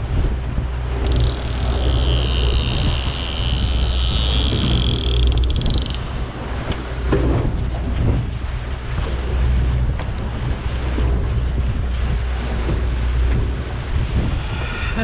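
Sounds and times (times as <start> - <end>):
outboard motor running: 0.0 - 14.4
water rushing past hull: 0.0 - 15.0
wind on microphone: 0.0 - 15.0.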